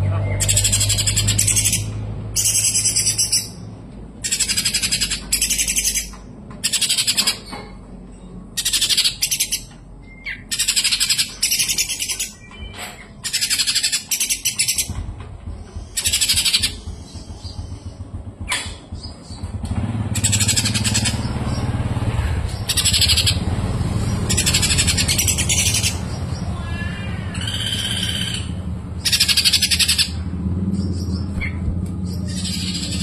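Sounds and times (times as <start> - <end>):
bird singing fast chattering phrases: 0.0 - 7.5, 8.4 - 33.0.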